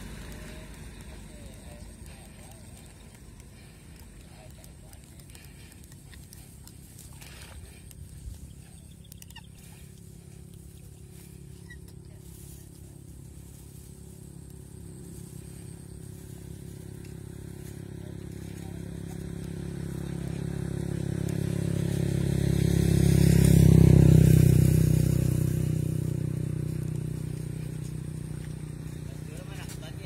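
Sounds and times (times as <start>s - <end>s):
vehicle engine passing by: 0.0s - 30.0s.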